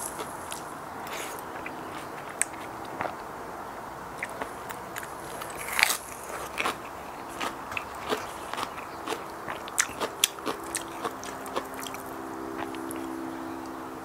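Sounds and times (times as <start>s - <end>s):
lettuce crunching when chewed: 0.0s - 3.3s, 4.1s - 13.8s
low steady hum: 0.0s - 14.0s.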